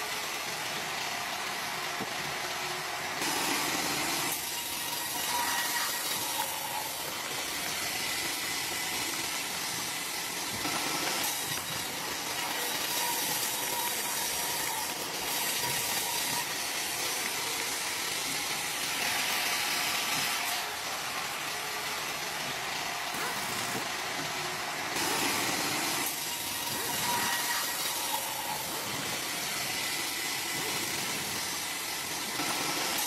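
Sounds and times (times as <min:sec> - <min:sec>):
band sawmill running: 0:00.0 - 0:33.0.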